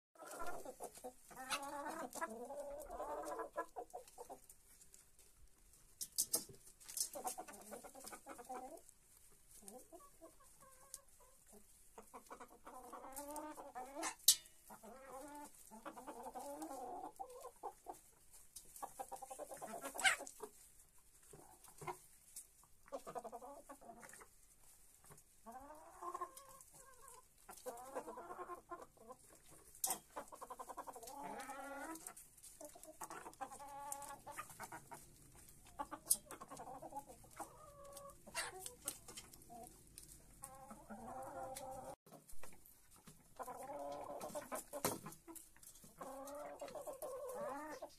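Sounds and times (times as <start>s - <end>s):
hens clucking: 0.2s - 47.9s.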